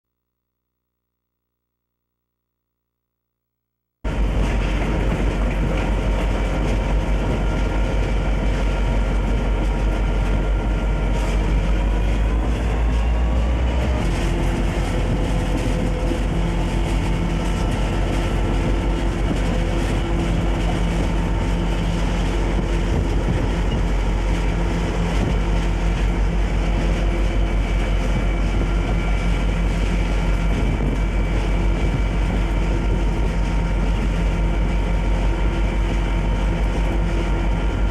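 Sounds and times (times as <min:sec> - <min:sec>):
diesel locomotive rumbling: 0:04.1 - 0:37.9.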